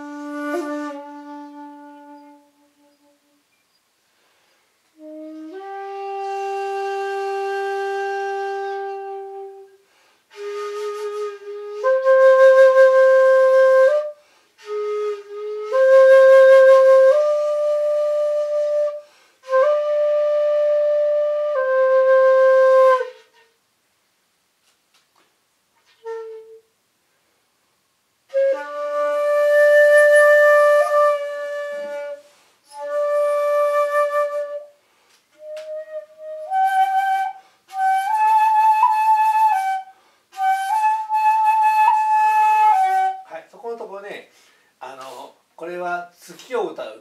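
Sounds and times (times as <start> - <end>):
bamboo flute solo: 0.0 - 3.4, 4.9 - 23.6, 25.8 - 26.7, 28.3 - 43.7.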